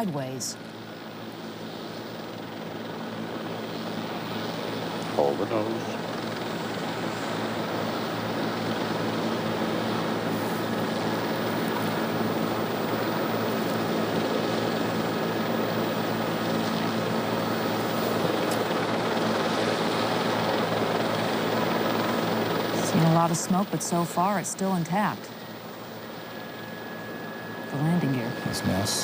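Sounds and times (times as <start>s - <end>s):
helicopter engine and rotor: 0.0s - 29.0s.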